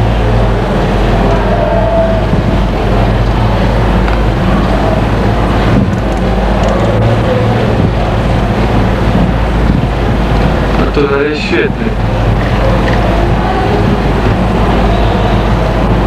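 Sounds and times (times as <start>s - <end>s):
car engine low drone: 0.0s - 16.0s.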